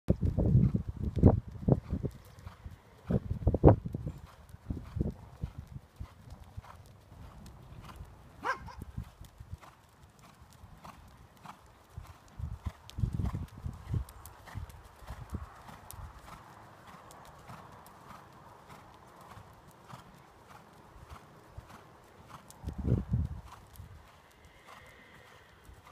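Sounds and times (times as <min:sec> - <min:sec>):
horse hooves cantering: 0:00.1 - 0:25.9.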